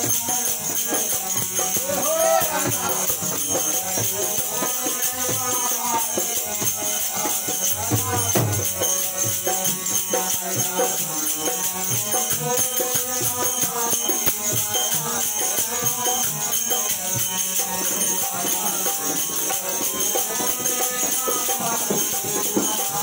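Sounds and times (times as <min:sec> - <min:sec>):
dholak drum: 0:00.0 - 0:23.0
harmonium: 0:00.0 - 0:23.0
man singing: 0:00.0 - 0:23.0.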